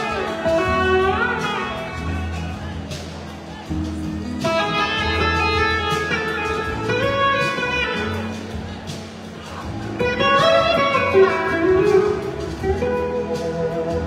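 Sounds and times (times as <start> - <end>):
bass and drums: 0.0 - 14.0
electric guitar lead line: 0.0 - 14.0.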